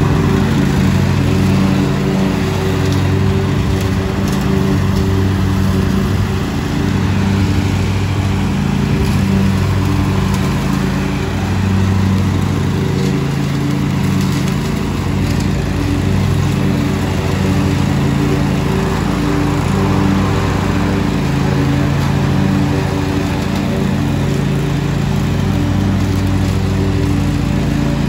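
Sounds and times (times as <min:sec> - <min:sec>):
lawn mower engine running: 0:00.0 - 0:28.0.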